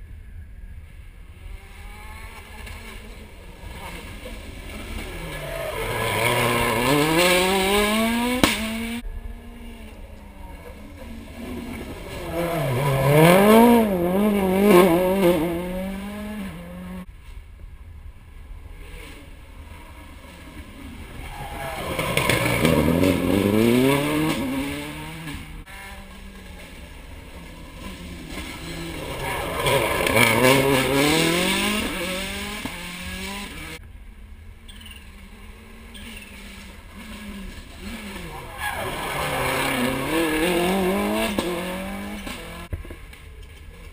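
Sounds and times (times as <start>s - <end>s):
rally car engines at full throttle: 0.2s - 17.4s, 18.0s - 43.9s.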